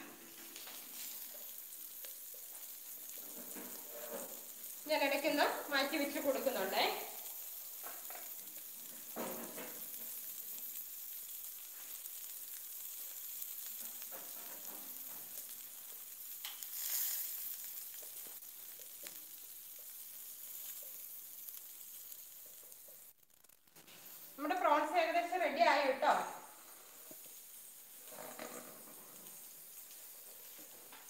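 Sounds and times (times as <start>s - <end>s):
kebabs sizzling in grill pan: 0.0s - 31.0s.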